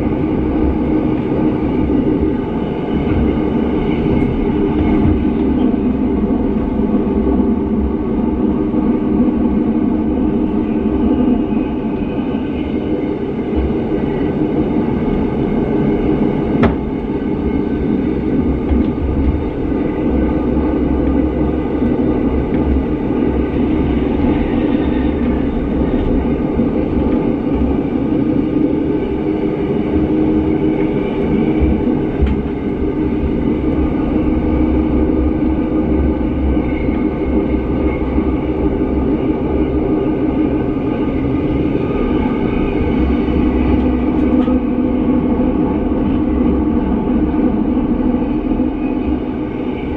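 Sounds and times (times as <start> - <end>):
train wheels rumbling: 0.0 - 49.9.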